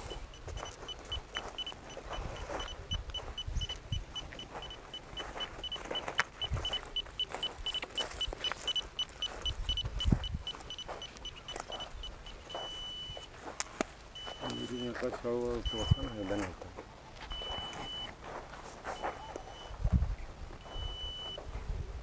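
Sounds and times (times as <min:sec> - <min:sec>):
short high beeps: 0:00.0 - 0:13.3, 0:14.2 - 0:16.5, 0:17.3 - 0:18.2, 0:18.9 - 0:19.8, 0:20.6 - 0:21.4.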